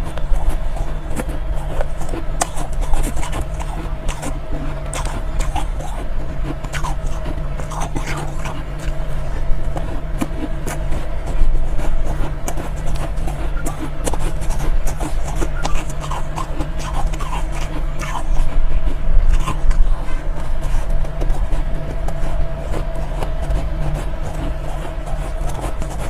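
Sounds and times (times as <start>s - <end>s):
chewing crunchy ice: 0.0s - 26.0s
steady low hum: 0.0s - 26.0s.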